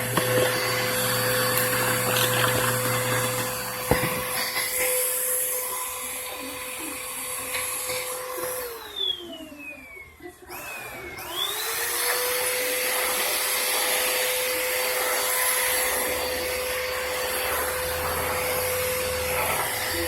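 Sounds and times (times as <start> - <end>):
vacuum cleaner motor running: 0.0 - 20.0.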